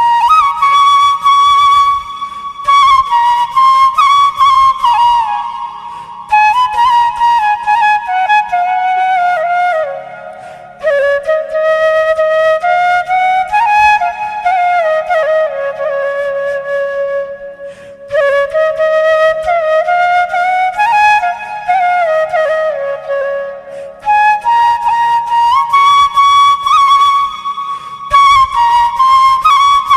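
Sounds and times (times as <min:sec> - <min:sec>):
solo flute melody: 0:00.0 - 0:29.9.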